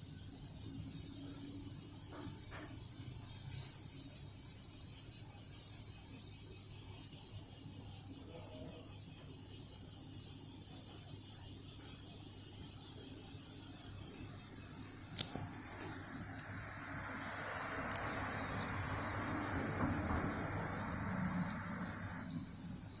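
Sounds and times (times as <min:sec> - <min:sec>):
cicada lower buzzing song: 0:00.0 - 0:23.0
cicadas high-pitched drone: 0:00.0 - 0:23.0.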